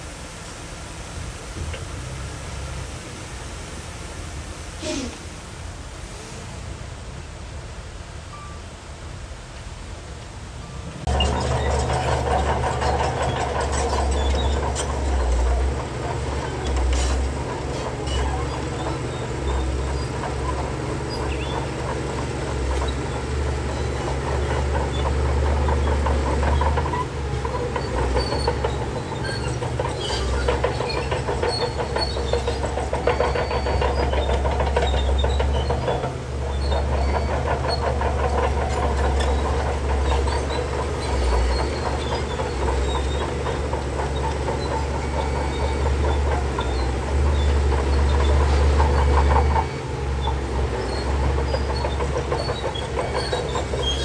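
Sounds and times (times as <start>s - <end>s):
diesel engine rumbling: 0.0s - 54.0s
steel tracks clattering: 9.6s - 54.0s.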